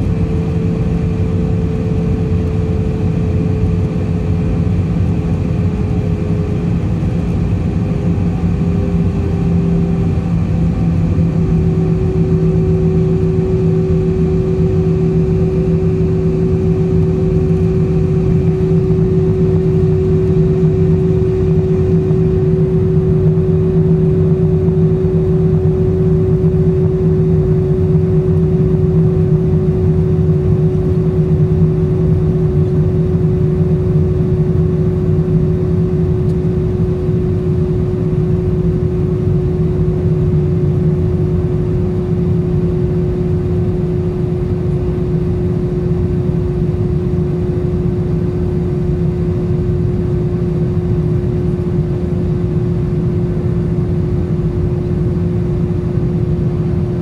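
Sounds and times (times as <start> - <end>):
jet engine cabin hum: 0.0 - 57.0.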